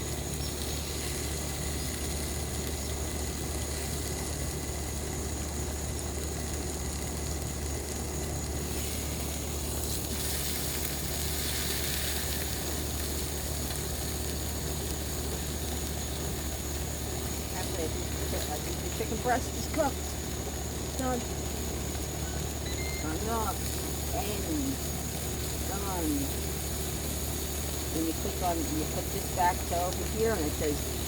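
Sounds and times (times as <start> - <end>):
chicken sizzling on grill: 0.0 - 31.0
grill fan hum: 0.0 - 31.0.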